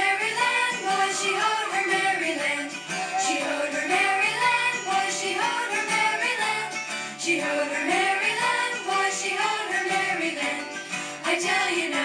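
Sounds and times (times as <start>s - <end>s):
song with singing voice: 0.0s - 12.0s.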